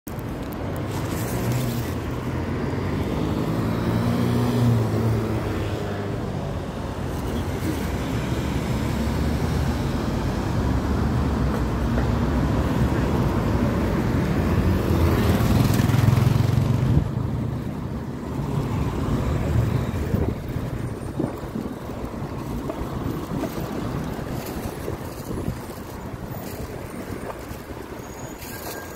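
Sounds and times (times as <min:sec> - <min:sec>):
road traffic passing: 0:00.1 - 0:28.9
wind rumbling on microphone: 0:00.1 - 0:28.9.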